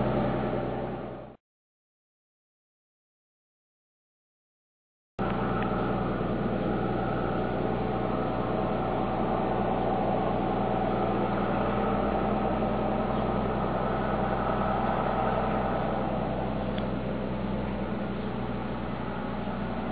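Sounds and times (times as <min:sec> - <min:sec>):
steady mechanical drone: 0:00.0 - 0:01.4, 0:05.2 - 0:19.9.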